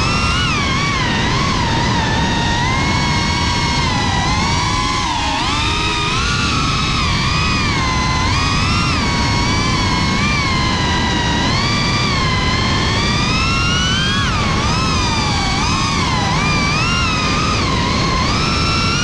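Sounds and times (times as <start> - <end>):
drone motors whining: 0.0 - 19.0
steady rushing noise: 0.0 - 19.0.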